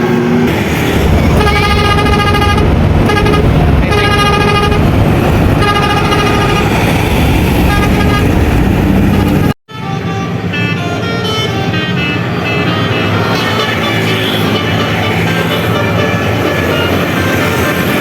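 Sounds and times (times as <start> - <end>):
low rumble of bus: 0.0 - 18.0
musical bus air horn: 1.2 - 4.9, 5.6 - 6.9, 7.6 - 8.4, 9.1 - 18.0.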